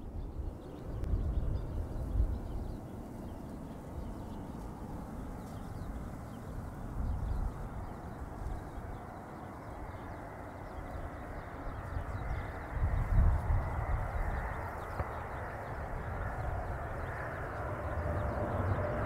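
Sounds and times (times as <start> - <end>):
distant jet engines rushing: 0.0 - 19.0.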